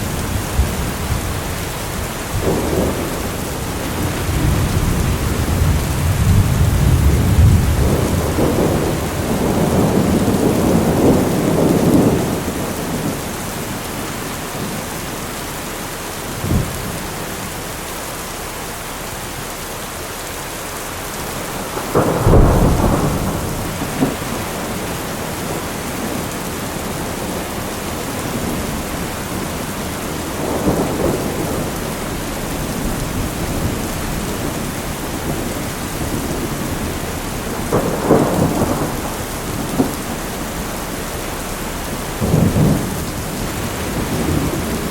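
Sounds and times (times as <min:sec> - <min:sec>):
thunder rumbling and cracking: 0:00.0 - 0:15.2, 0:16.2 - 0:17.8, 0:21.0 - 0:44.9
steady rain: 0:00.0 - 0:44.9.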